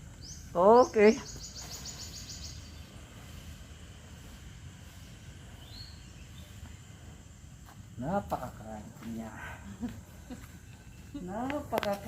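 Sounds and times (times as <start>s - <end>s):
high pulsed insect trill: 0.0s - 12.0s.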